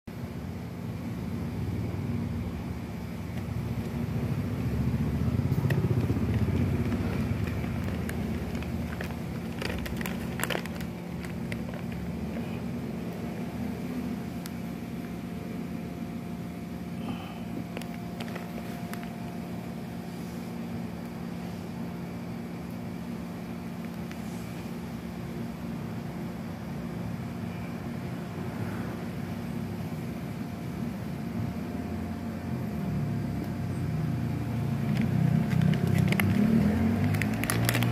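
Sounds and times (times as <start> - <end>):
traffic engine hum: 0.1 - 37.9.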